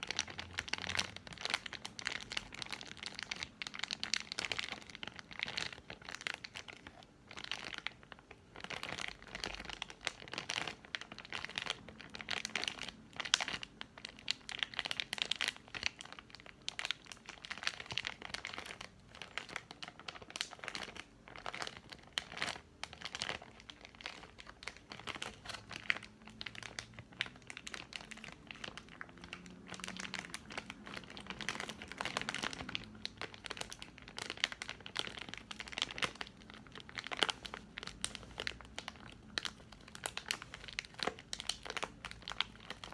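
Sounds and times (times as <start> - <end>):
plastic wrapper crinkling: 0.0 - 42.9.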